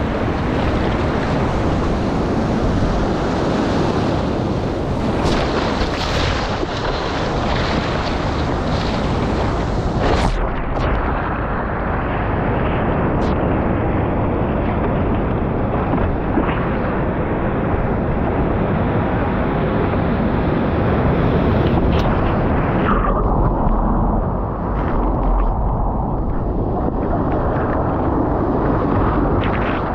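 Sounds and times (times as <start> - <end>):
surf rushing over surfboard: 0.0 - 29.9.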